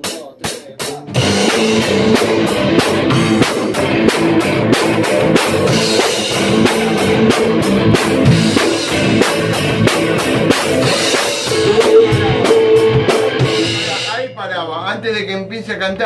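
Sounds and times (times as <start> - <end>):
drum kit beat: 0.0 - 14.9
bass guitar: 0.0 - 15.0
electric guitars: 1.0 - 14.2.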